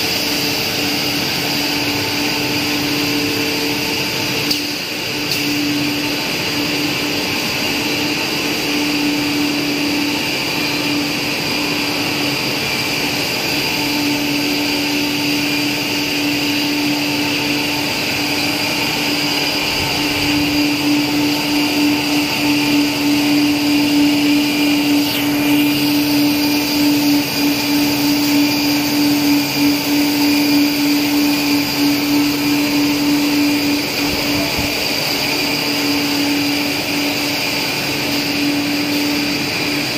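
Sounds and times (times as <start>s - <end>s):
constant machine tone: 0.0s - 39.9s
machine hum of motors and blowers: 0.0s - 39.9s.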